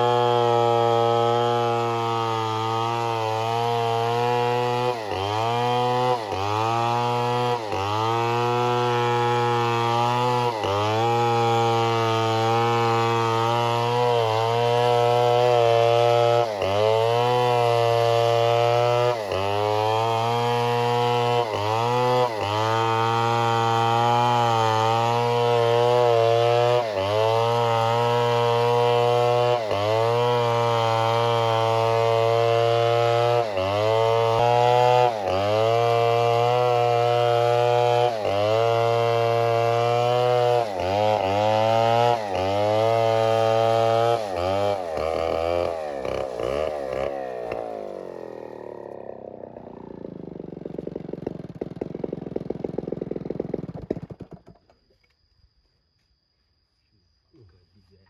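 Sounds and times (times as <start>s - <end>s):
chainsaw cutting wood: 0.0s - 54.7s.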